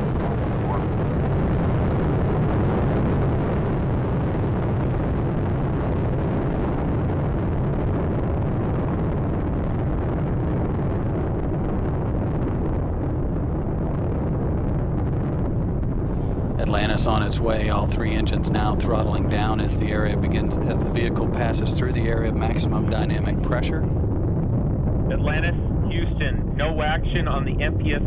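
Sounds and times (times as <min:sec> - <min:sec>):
rocket engines rumbling: 0:00.0 - 0:28.0.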